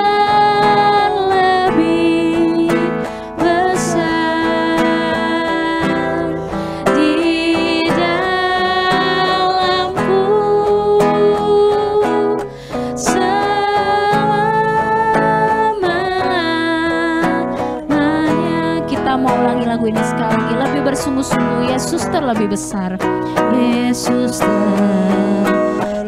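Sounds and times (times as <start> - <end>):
instrumental accompaniment: 0.0 - 26.0
women singing in unison: 0.0 - 26.0.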